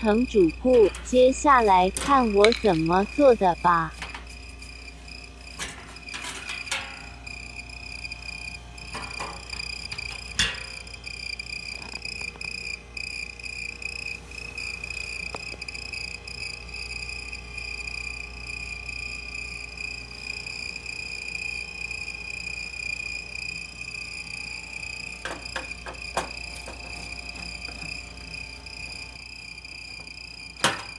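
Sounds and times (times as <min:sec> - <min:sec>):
refrigerator chirping squeak: 0:00.0 - 0:30.9.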